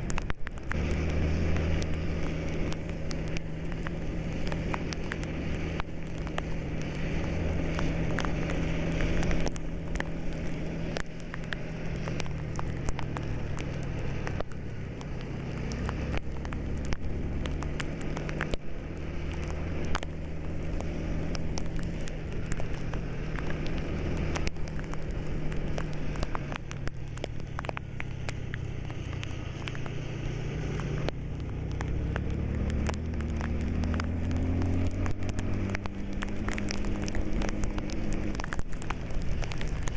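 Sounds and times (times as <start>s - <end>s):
small sharp clicks and rattles: 0.0s - 39.9s.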